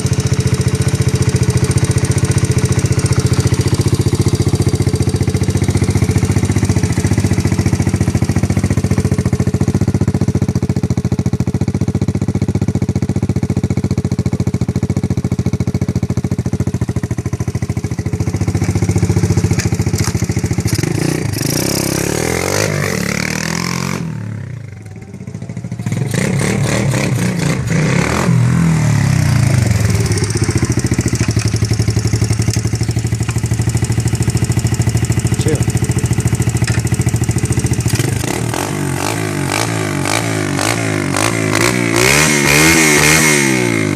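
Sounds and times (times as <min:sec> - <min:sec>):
motorbike engine idling and revving: 0:00.0 - 0:43.9.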